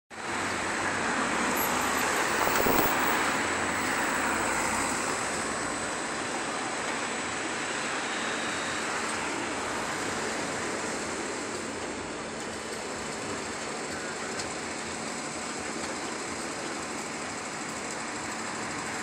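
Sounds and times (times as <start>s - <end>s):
road traffic noise: 0.1s - 19.0s
diesel truck engine running: 0.2s - 19.0s.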